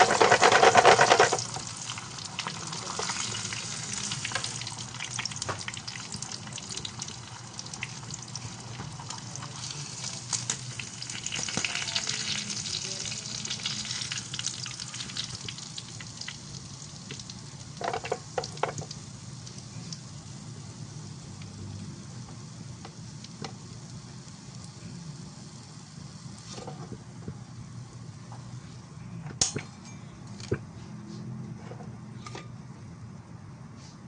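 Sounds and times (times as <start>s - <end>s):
fish frying in hot oil: 0.0s - 27.6s.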